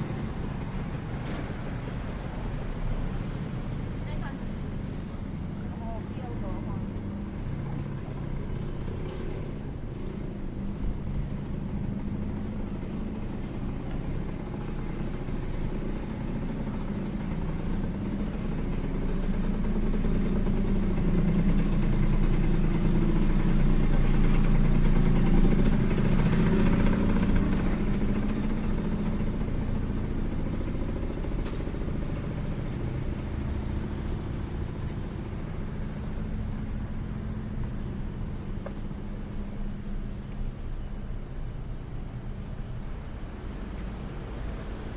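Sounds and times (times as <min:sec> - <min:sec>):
vehicle engine passing: 0:00.0 - 0:40.7.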